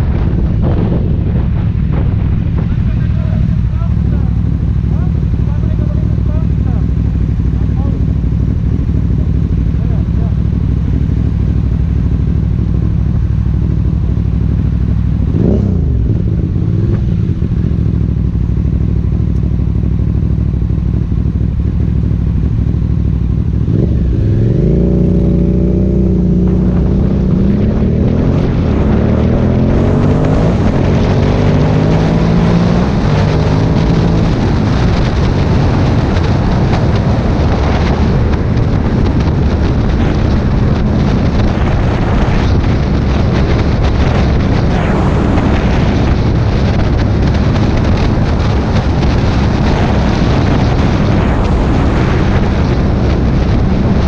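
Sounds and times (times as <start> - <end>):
wind noise on microphone: 0.0 - 21.8, 22.4 - 54.0
motorcycle engine: 0.0 - 54.0.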